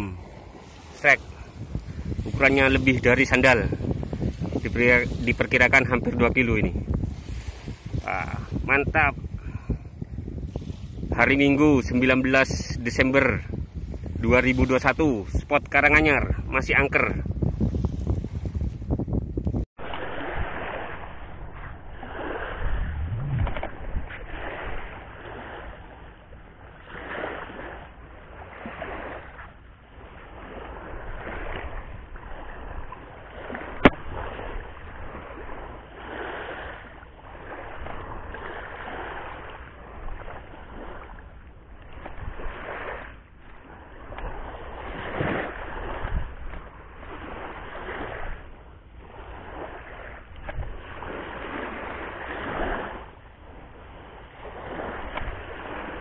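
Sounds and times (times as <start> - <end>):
sea waves washing onto shore: 0.0 - 18.9, 19.5 - 56.0.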